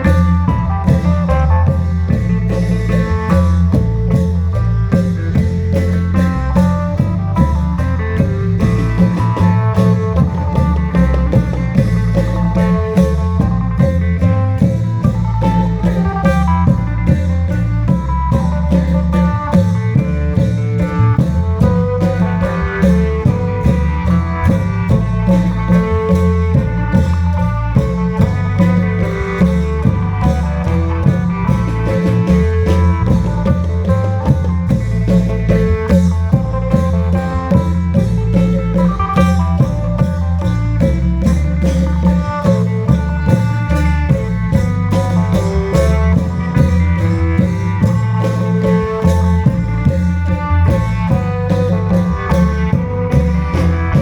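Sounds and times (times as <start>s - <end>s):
drum ensemble music: 0.0s - 54.0s
sustained reed melody with drone: 0.0s - 54.0s.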